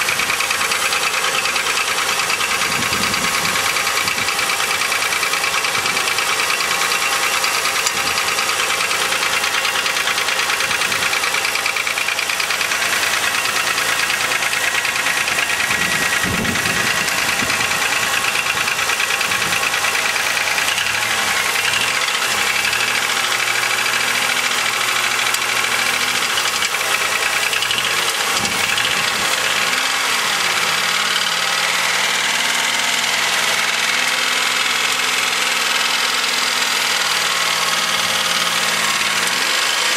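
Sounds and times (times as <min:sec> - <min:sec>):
engine running with knocking clatter: 0:00.0 - 0:39.9.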